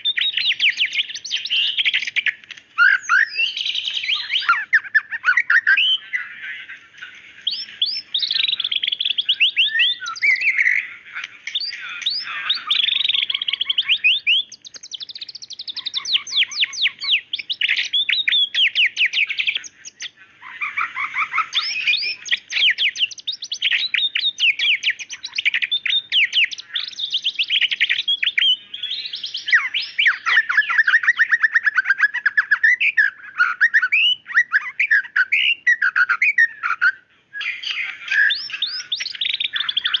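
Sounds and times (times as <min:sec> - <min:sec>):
bird singing trills: 0:00.0 - 0:40.0.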